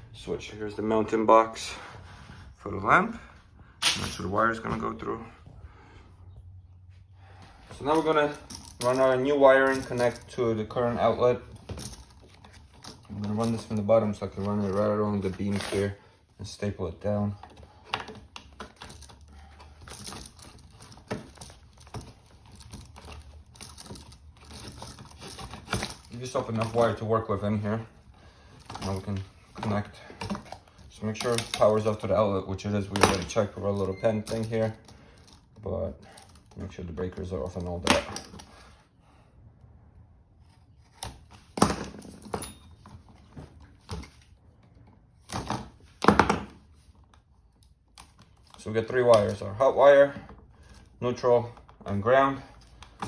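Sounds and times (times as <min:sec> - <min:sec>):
electrical cable rustling and scraping: 0:06.2 - 0:38.9, 0:40.3 - 0:53.0.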